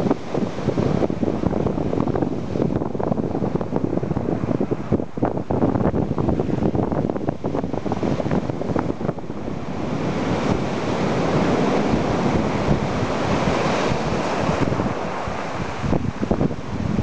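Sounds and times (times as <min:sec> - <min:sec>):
surf washing up on beach: 0:00.0 - 0:17.0
wind buffeting microphone: 0:00.0 - 0:17.0.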